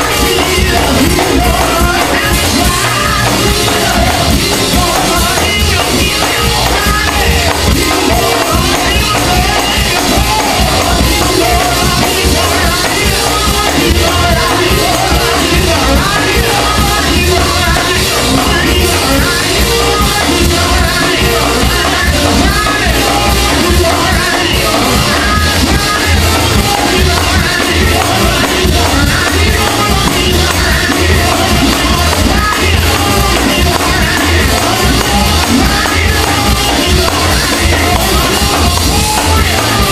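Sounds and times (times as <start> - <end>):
gospel singing over a band: 0.0 - 39.9.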